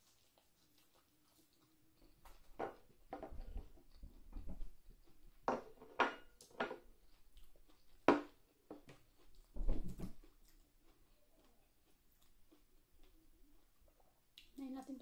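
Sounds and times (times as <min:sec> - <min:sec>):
close-up chewing: 0:00.0 - 0:05.5, 0:06.9 - 0:14.7.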